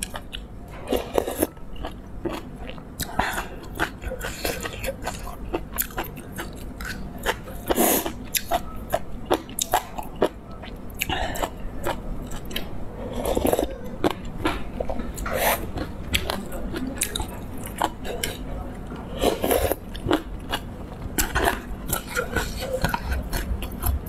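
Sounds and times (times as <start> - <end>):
chewing noodle soup: 0.0 - 24.0.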